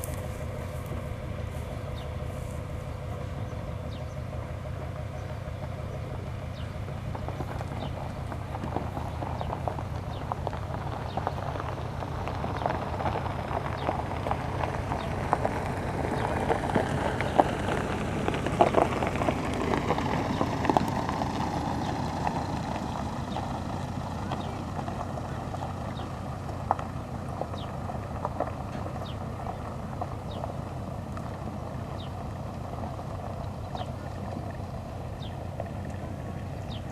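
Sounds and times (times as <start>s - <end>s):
diesel engine drone: 0.0s - 36.9s
wheels clattering over rail joints: 0.0s - 36.9s.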